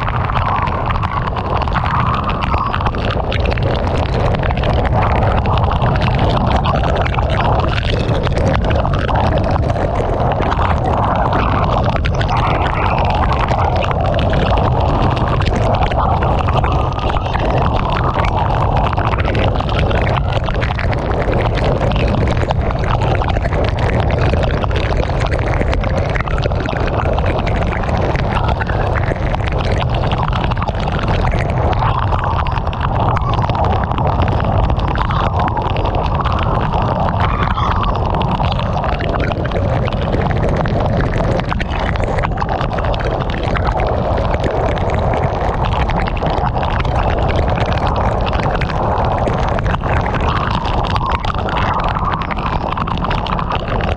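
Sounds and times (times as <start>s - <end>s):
heavy rain on a car: 0.0s - 53.9s.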